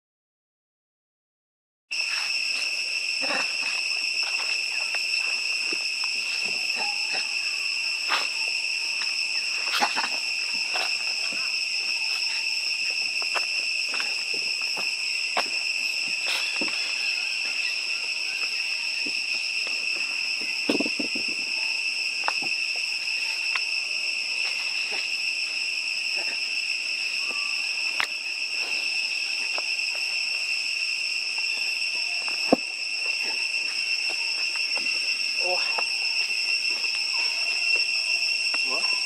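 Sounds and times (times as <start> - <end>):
insects droning: 1.9 - 39.0.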